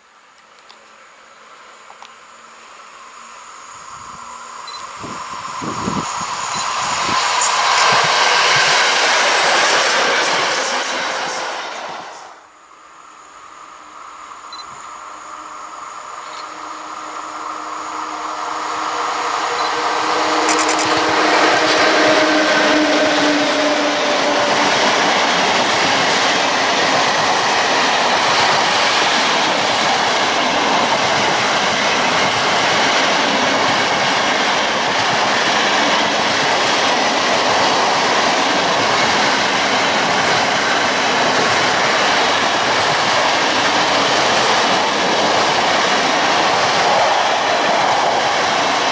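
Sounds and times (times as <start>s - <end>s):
humming locomotive: 0.1s - 48.9s
train wagons rolling on rails: 4.0s - 12.5s, 14.6s - 48.9s.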